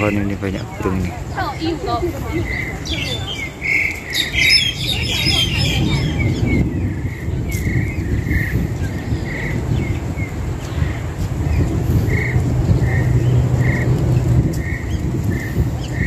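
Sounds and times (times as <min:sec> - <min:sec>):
birds chattering whistles: 0:00.0 - 0:16.0
steady low rumble: 0:00.0 - 0:16.0.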